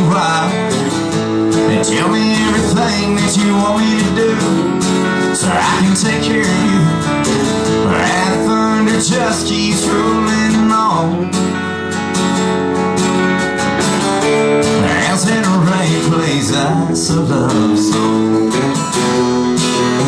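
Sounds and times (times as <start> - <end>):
man singing country song: 0.0 - 13.3, 14.2 - 20.0
strummed acoustic guitar: 0.0 - 20.0.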